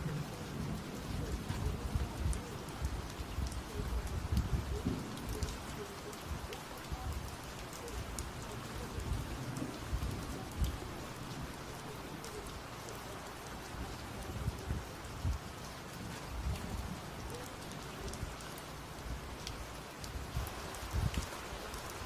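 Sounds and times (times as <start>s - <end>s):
thunder rumbles: 0.0s - 18.4s
rain falling: 0.0s - 22.0s.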